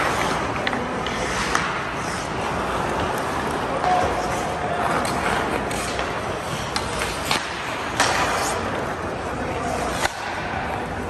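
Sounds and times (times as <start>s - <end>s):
hockey sticks and puck clacking: 0.0s - 11.0s
skate blades scraping ice: 0.0s - 11.0s.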